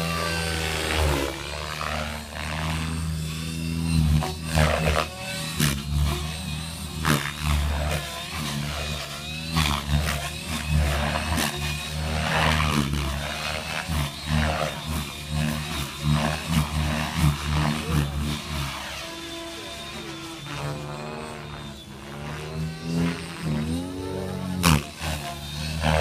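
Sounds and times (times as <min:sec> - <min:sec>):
model helicopter buzzing: 0:00.0 - 0:26.0.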